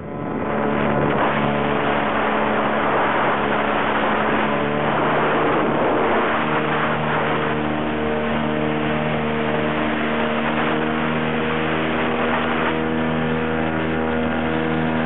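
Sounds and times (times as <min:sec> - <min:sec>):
loud rushing airflow: 0:00.0 - 0:15.0.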